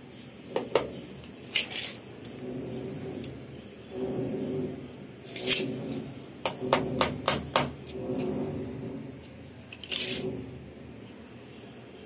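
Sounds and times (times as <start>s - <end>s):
handling scrape: 0.0s - 12.0s.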